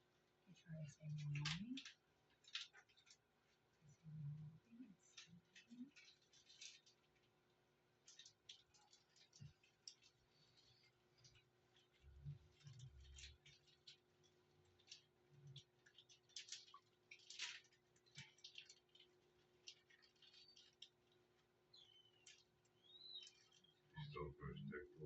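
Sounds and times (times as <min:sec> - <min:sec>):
faint irregular clicks: 0:00.1 - 0:24.9.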